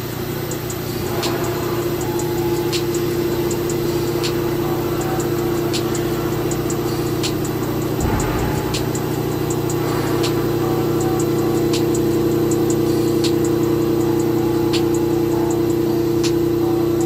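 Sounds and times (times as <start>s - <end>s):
steady machine tone: 0.0s - 17.0s
sharp high ticks: 0.4s - 17.0s.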